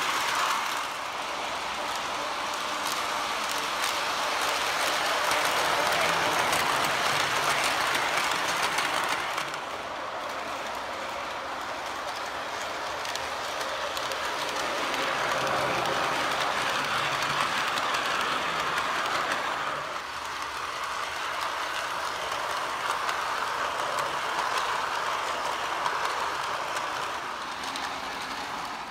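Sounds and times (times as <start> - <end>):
model train wheels clattering: 0.0 - 28.9.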